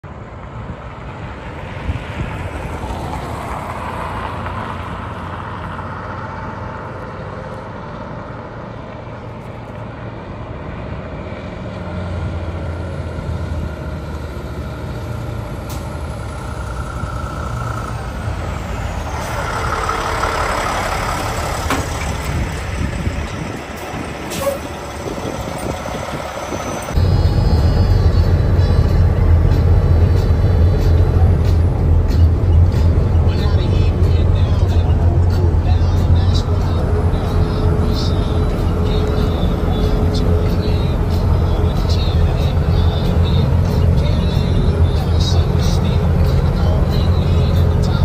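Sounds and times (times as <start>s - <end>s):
diesel truck engine rumbling: 0.0s - 48.0s.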